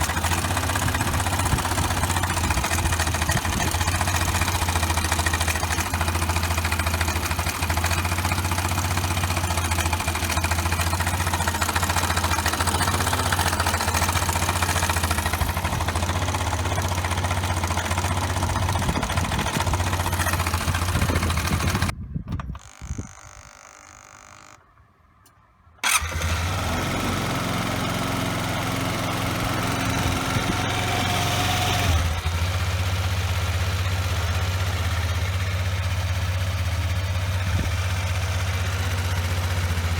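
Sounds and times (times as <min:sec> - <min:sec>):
scooter engine idling: 0:00.0 - 0:22.0, 0:25.8 - 0:39.9.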